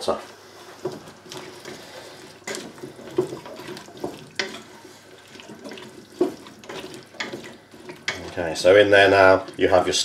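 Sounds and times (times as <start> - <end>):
wooden spoon stirring wet food: 0.3 - 10.0.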